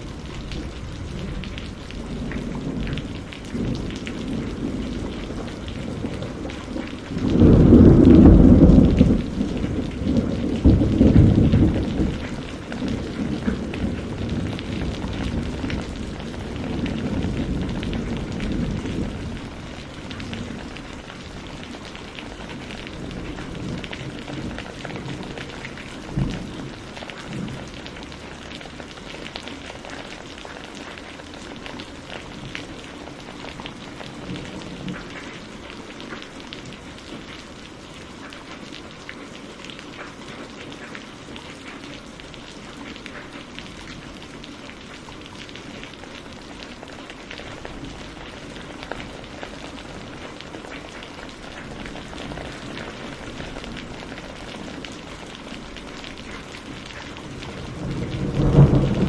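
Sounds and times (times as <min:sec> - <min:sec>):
steady rain patter: 0:00.0 - 0:59.0.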